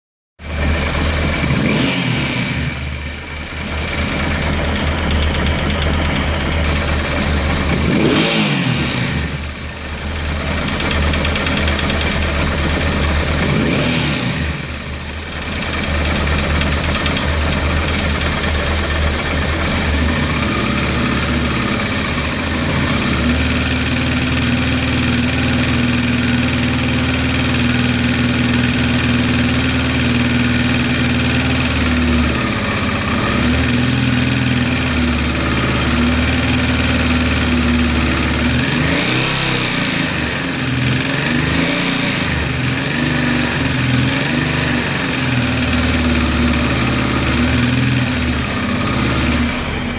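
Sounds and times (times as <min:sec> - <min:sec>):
motorcycle engine idling: 0:00.4 - 0:49.9.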